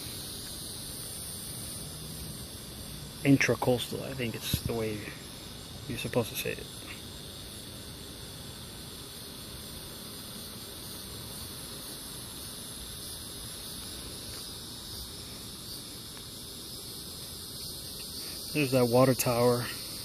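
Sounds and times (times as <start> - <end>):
insects droning chorus: 0.0 - 20.0.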